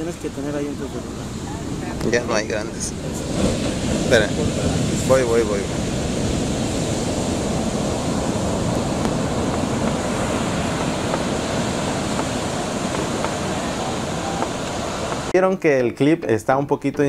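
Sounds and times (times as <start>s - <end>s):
waves breaking on sand: 0.0s - 15.3s.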